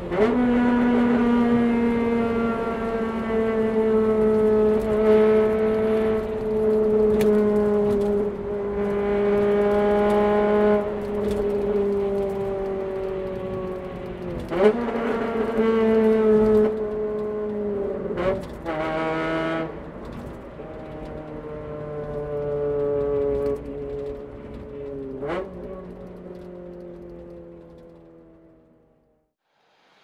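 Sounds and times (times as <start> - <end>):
car engine and exhaust revving: 0.0 - 30.0.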